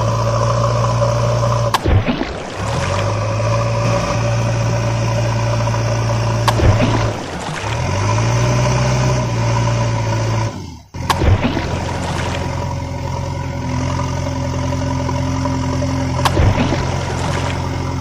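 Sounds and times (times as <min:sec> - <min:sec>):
heavy truck engine running: 0:00.0 - 0:18.0.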